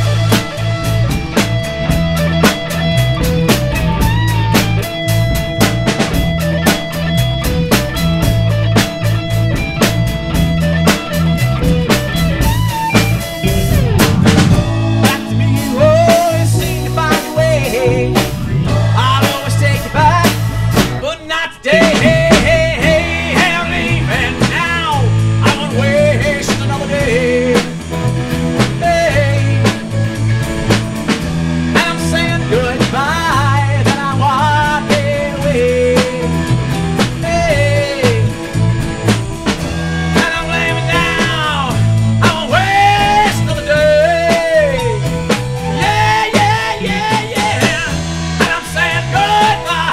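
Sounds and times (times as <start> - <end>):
live rock band playing: 0.0 - 49.9
steady drum beat: 0.0 - 49.9.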